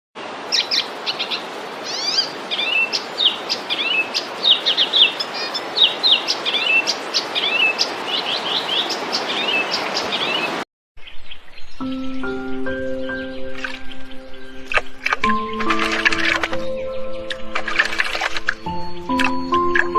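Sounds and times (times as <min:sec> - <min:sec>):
small birds chirping and trilling: 0:00.2 - 0:19.9.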